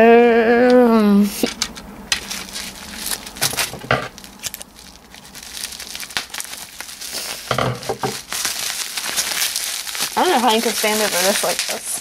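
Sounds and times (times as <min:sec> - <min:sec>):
bubble wrap crinkling: 0:01.3 - 0:12.0.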